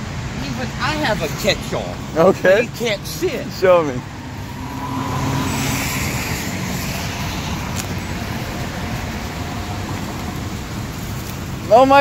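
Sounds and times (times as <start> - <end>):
highway traffic roar: 0.0 - 12.0.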